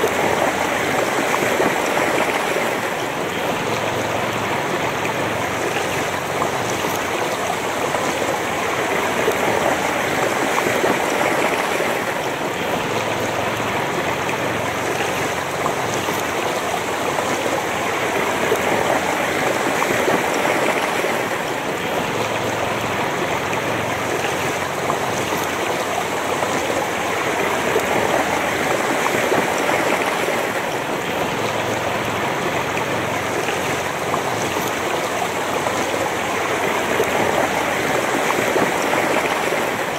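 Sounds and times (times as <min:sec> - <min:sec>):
river rushing over stones: 0:00.0 - 0:39.9.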